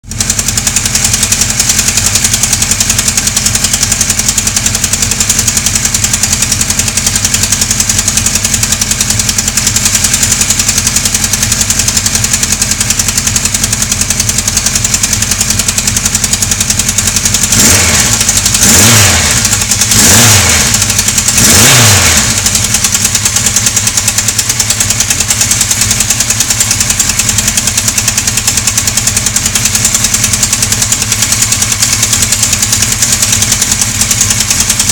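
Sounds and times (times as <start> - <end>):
car engine idling with ticking: 0.0 - 34.9
car engine revving: 0.1 - 34.9.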